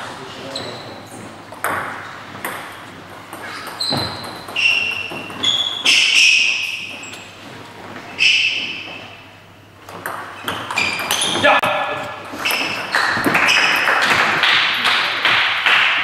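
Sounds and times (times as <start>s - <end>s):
shoes squeaking on wooden floor: 0.4s - 14.3s.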